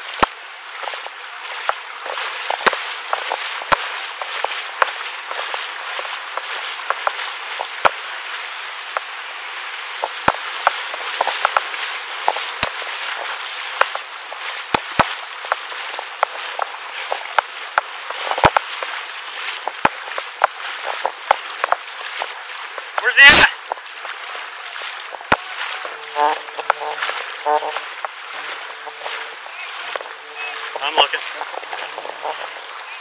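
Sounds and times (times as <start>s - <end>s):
rushing floodwater hiss: 0.0s - 33.0s.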